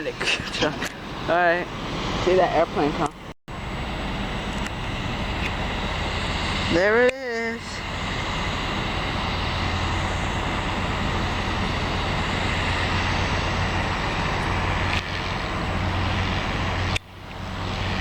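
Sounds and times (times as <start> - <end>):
airplane engines passing close: 0.0 - 18.0.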